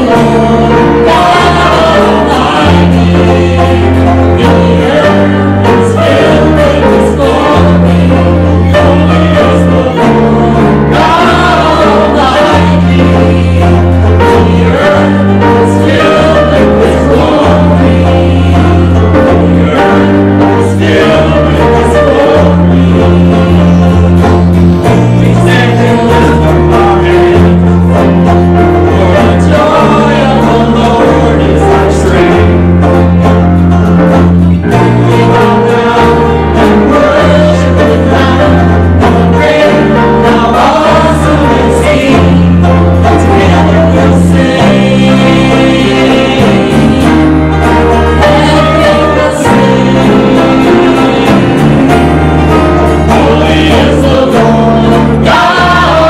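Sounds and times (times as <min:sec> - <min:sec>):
voices singing together: 0:00.0 - 0:56.0
worship band playing: 0:00.0 - 0:56.0.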